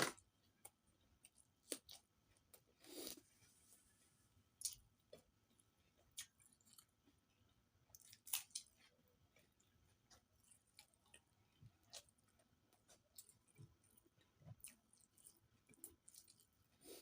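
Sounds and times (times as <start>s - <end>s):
person chewing and eating: 0.0s - 3.6s, 4.5s - 17.0s.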